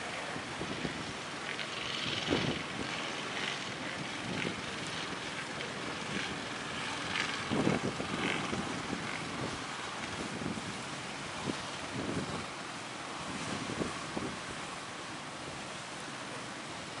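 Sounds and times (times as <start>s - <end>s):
wind buffeting microphone: 0.0s - 15.8s.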